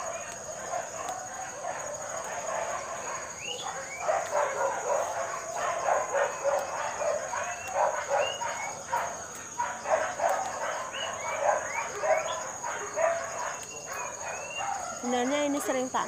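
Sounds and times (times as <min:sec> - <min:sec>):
dog barking: 0:00.0 - 0:15.9.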